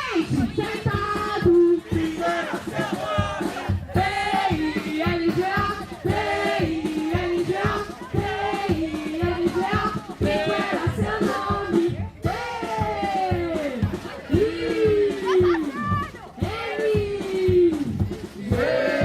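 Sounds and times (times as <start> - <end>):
group of voices singing: 0.0 - 19.0
rhythmic beat: 0.0 - 19.0.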